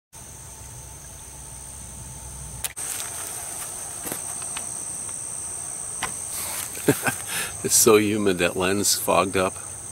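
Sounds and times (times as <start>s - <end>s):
insects trilling: 0.2s - 9.9s.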